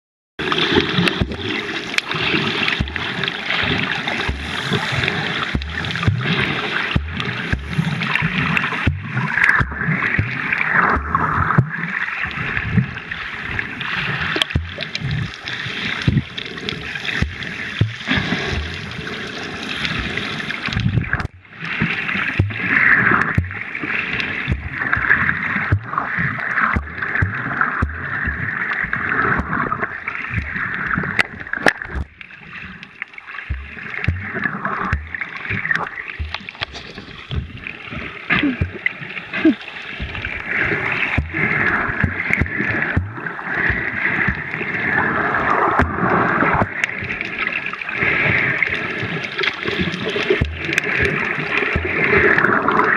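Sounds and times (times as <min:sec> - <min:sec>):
water sloshing and gurgling: 0:00.4 - 0:52.9.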